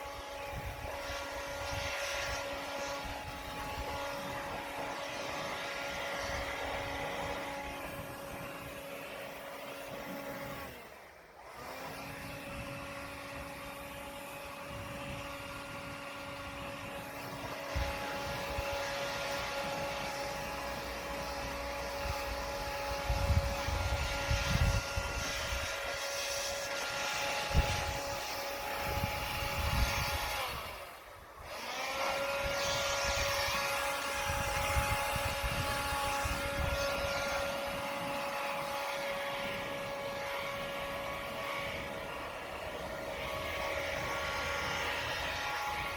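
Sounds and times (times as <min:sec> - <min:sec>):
snow blower whining: 0:00.0 - 0:45.9.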